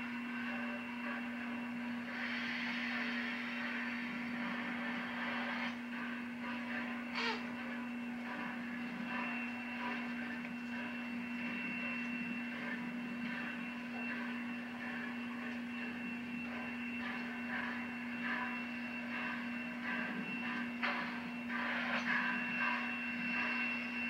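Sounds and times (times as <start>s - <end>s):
low electrical hum: 0.0s - 24.0s
steam locomotive hissing: 0.0s - 24.0s
thin high whine: 0.0s - 24.0s.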